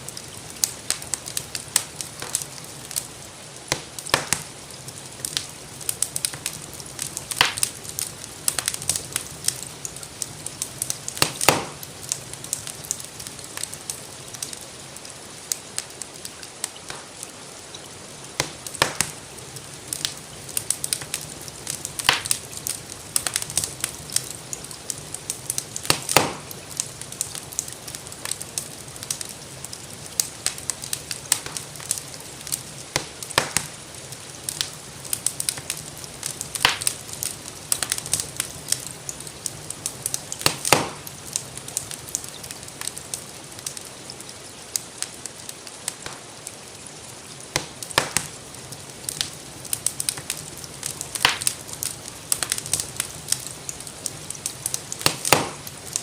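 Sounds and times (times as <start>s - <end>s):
rainfall hiss: 0.0s - 56.0s
wood fire crackling and popping: 0.0s - 56.0s.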